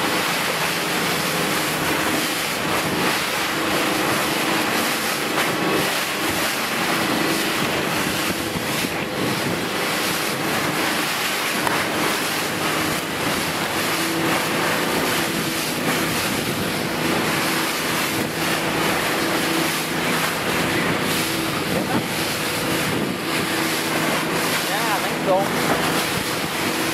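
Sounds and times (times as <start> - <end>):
small boat motor running: 0.0 - 26.9
water rushing past hull: 0.0 - 26.9
wind buffeting microphone: 1.4 - 26.9.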